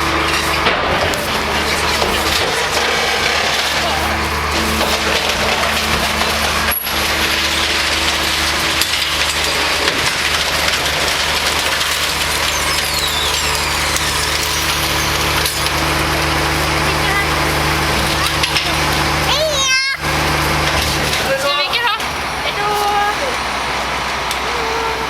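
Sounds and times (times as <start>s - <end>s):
compactor crunching and clattering: 0.0s - 25.0s
garbage truck engine hum: 0.0s - 25.0s.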